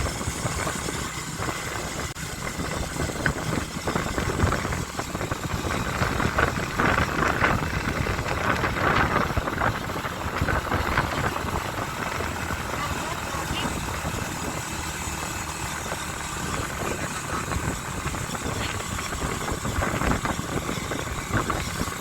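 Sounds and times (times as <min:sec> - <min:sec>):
motorcycle engine rumble: 0:00.0 - 0:22.0
wind and road noise: 0:00.0 - 0:22.0.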